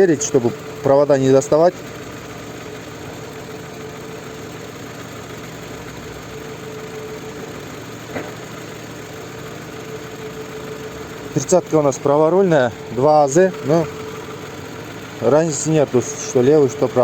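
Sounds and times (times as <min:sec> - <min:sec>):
car engine idling: 0:00.0 - 0:17.0
faint engine whine: 0:00.0 - 0:17.0.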